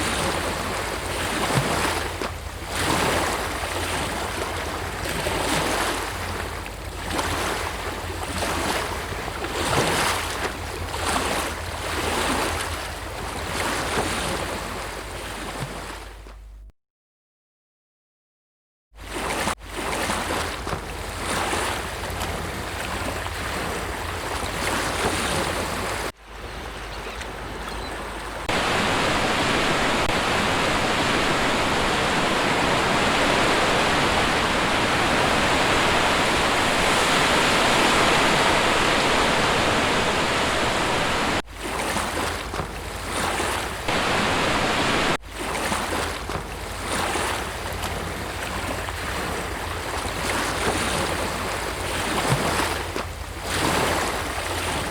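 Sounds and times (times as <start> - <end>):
sea waves breaking on shore: 0.0 - 16.4, 19.0 - 54.9.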